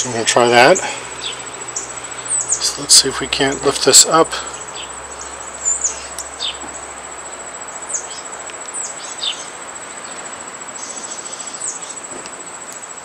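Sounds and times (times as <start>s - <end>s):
insect high-pitched trill: 0.0s - 13.0s.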